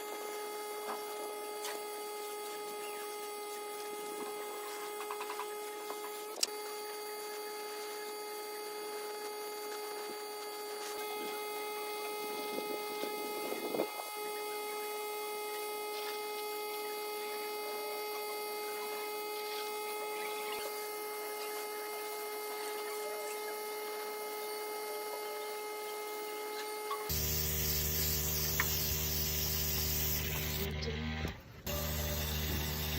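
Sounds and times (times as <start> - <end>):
high-pitched electrical hum: 0.0 - 32.9.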